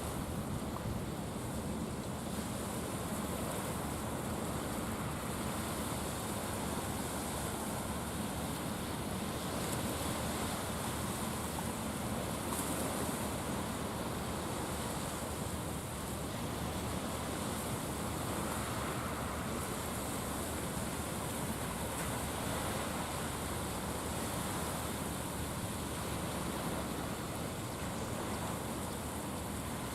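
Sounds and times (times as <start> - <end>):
sea noise: 0.0 - 29.9.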